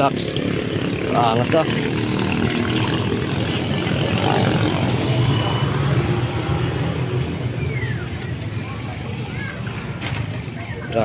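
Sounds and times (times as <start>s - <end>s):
boat engine running fast: 0.0s - 9.2s.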